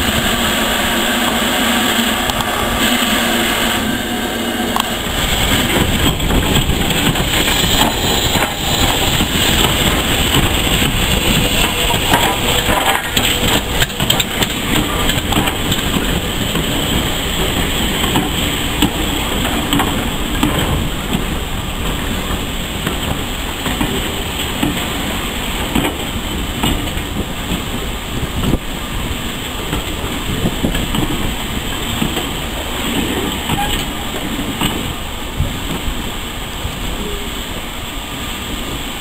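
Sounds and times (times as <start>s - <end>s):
train coaches rumbling past: 0.0s - 39.0s
wheels knocking on rail joints: 4.7s - 36.0s.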